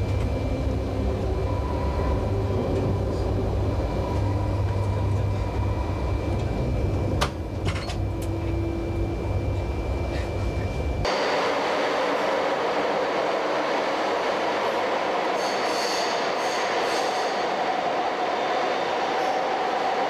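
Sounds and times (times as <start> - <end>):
train cab rumble and hum: 0.0 - 20.0.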